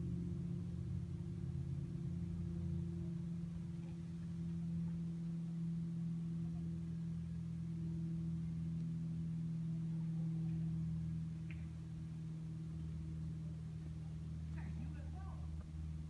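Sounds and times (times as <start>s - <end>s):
machine humming and rumbling: 0.0s - 16.0s.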